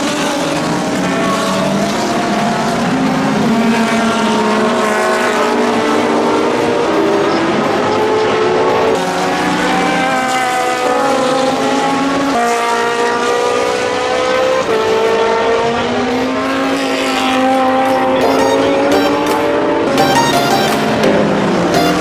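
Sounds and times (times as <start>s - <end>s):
racing car engines at high revs: 0.0s - 22.0s.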